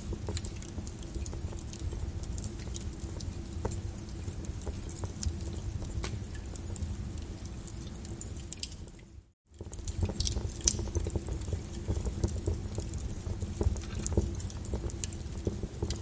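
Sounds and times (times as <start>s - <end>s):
low fire rumble: 0.0s - 16.0s
wood fire crackling and popping: 0.0s - 16.0s.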